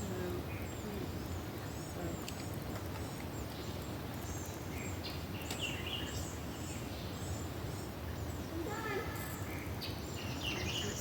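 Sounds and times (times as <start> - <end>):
low rushing background noise: 0.0 - 11.0
small birds chirping: 0.0 - 11.0.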